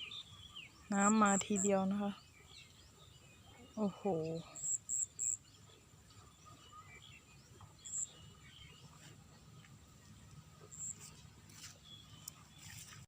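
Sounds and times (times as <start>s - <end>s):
open field ambience: 0.0s - 13.0s
small birds chirping: 0.0s - 13.0s.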